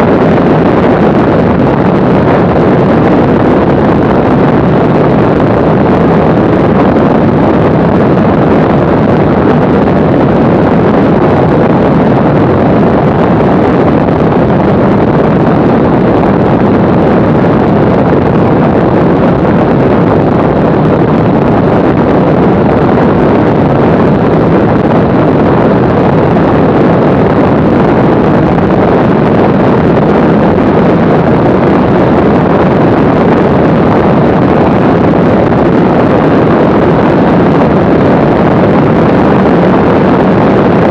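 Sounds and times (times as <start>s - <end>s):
aircraft engine and propeller drone: 0.0s - 36.8s
wind rushing over microphone: 0.0s - 40.9s.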